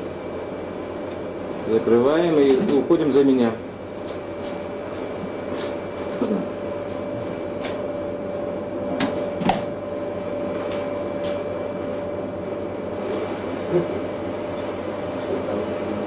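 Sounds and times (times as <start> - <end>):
laboratory equipment hum: 0.0 - 16.0.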